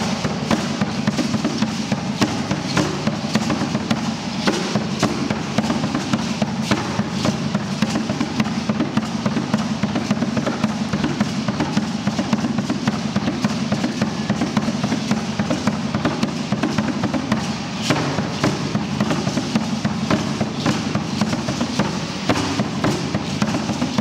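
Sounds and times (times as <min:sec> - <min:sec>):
drum beating fast rhythm: 0:00.0 - 0:24.0.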